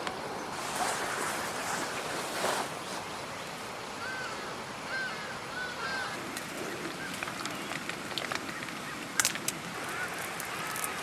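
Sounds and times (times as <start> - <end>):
rain hiss: 0.5 - 11.0.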